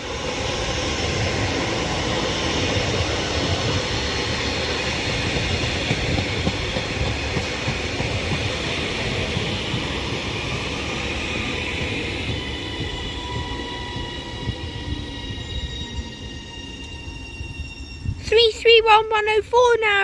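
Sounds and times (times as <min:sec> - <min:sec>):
train wheels rumbling on rail: 0:00.0 - 0:19.8.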